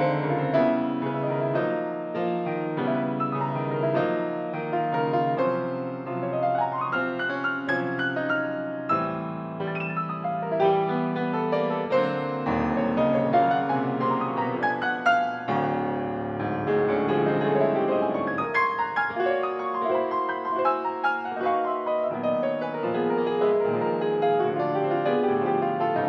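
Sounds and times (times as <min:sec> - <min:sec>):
classical grand piano: 0:00.0 - 0:26.0.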